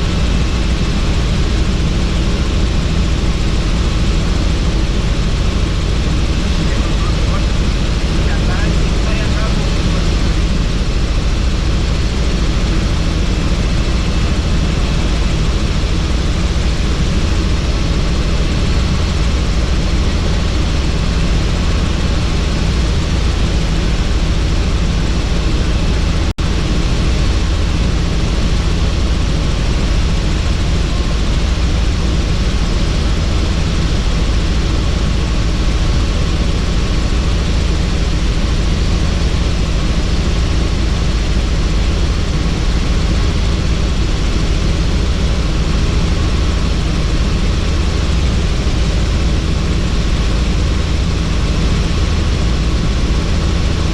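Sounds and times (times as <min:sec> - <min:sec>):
helicopter rotor and engine drone: 0:00.0 - 0:53.9.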